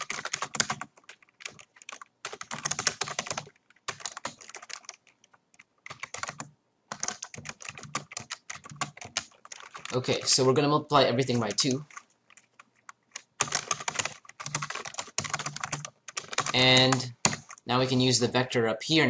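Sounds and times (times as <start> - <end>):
computer keyboard typing: 0.0 - 17.7.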